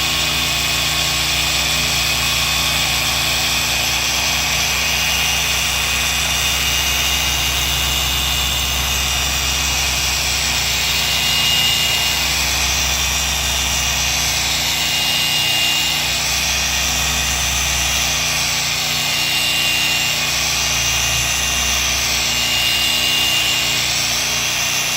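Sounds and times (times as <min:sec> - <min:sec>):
power sander whine: 0:00.0 - 0:24.9.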